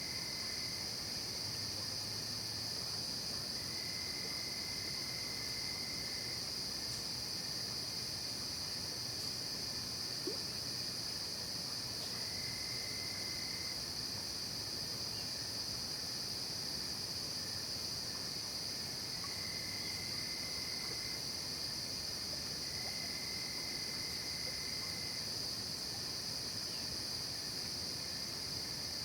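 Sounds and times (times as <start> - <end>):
lower insect trill: 0.0 - 29.0.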